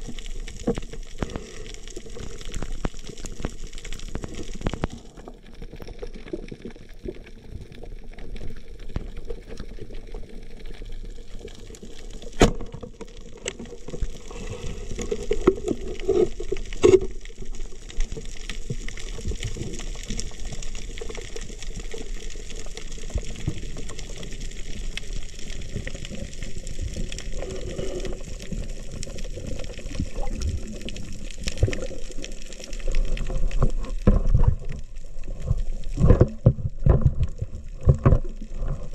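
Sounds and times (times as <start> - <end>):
muffled underwater rush: 0.0 - 38.9.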